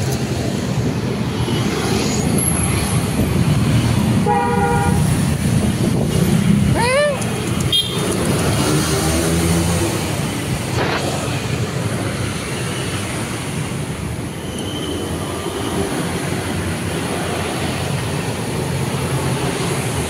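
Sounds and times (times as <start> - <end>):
passing motor vehicles rumble: 0.0 - 20.0.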